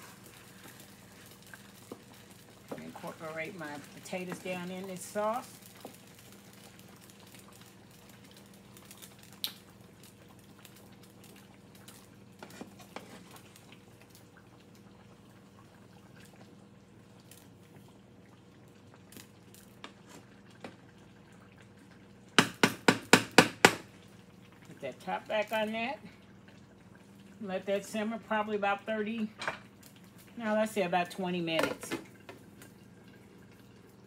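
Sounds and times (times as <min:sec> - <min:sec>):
skillet simmering: 0:00.0 - 0:34.0.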